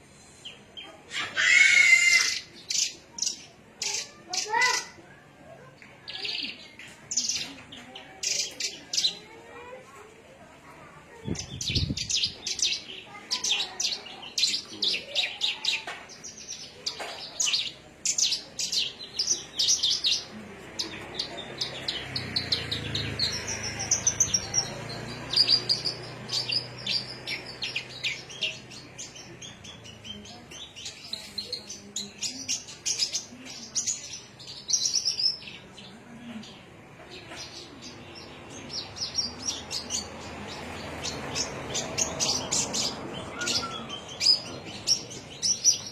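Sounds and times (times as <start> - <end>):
bird chirping and trilling: 0.4 - 5.0, 11.2 - 35.6, 37.1 - 45.9.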